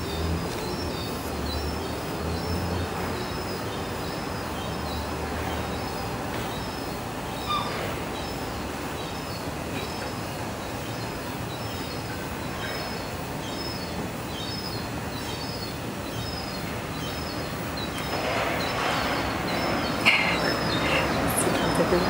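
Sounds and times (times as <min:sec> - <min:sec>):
small birds chirping: 0:00.0 - 0:22.0
steady outdoor hiss: 0:00.0 - 0:22.0.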